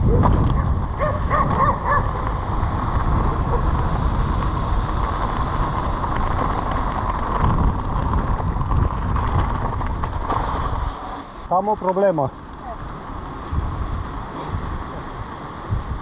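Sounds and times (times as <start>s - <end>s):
wind buffeting microphone: 0.0s - 11.7s, 12.5s - 16.0s
continuous low rumble: 0.0s - 16.0s.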